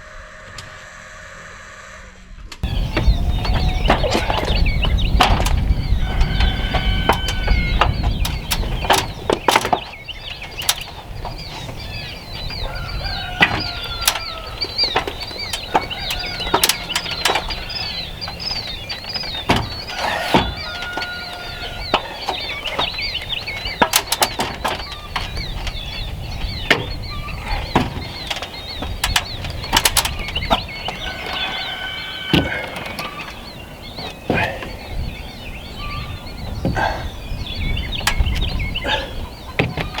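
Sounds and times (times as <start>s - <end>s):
poultry calling: 0.0s - 40.0s.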